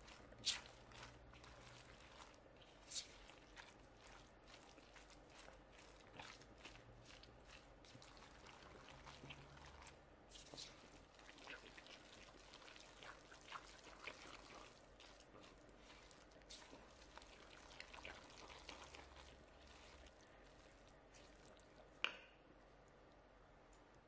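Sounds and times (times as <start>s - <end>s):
spatula stirring wet food: 0.0s - 22.2s.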